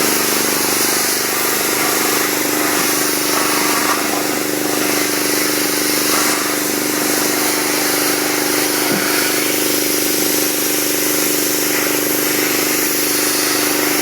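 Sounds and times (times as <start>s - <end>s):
pressure washer running: 0.0s - 14.0s.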